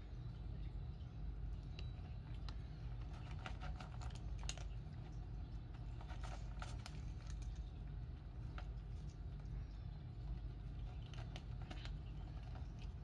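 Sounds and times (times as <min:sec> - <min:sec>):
cats crunching dry kibble: 0:00.0 - 0:13.0.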